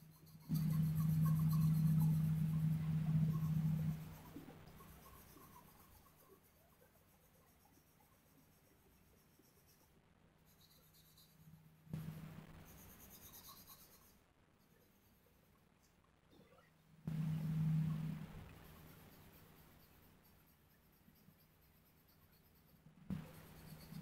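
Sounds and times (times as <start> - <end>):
pencil scratching on paper: 0.0 - 15.6, 18.5 - 24.0.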